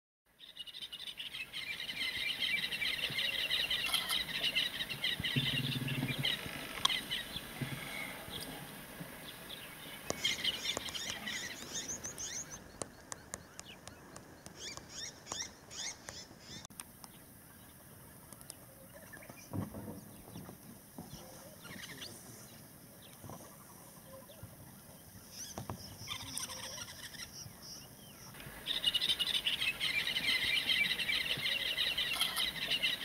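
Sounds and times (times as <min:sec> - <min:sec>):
small birds chirping: 0:00.3 - 0:33.0.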